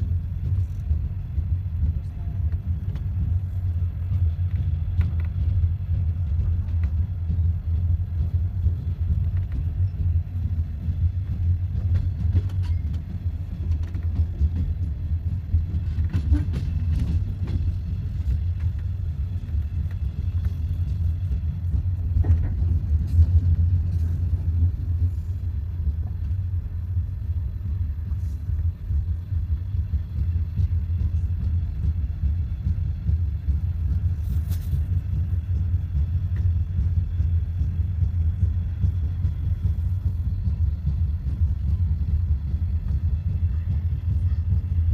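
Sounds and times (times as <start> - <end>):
train rumbling on track: 0.0 - 44.9.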